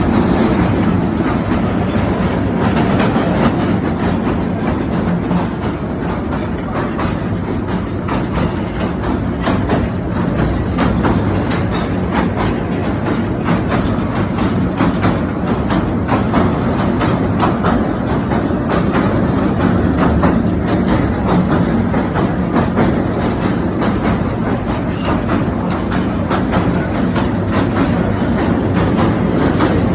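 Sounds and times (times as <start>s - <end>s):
train rumbling over bridge: 0.0s - 29.9s
wheels clattering on rails: 0.0s - 29.9s.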